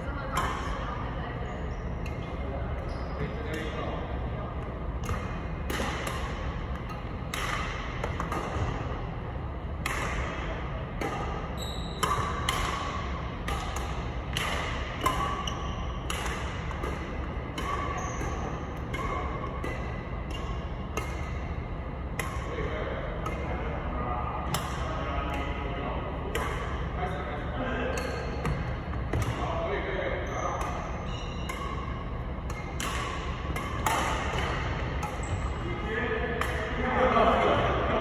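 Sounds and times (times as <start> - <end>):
low ventilation hum: 0.0 - 38.0
rackets hitting shuttlecock: 0.2 - 0.9, 4.6 - 29.6, 30.2 - 38.0.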